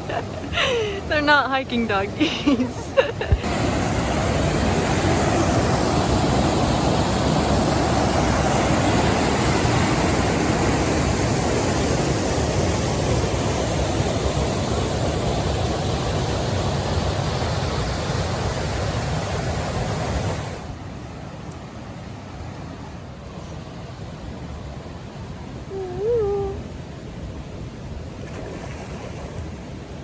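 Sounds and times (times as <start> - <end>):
small waterfall rushing: 0.0 - 30.0.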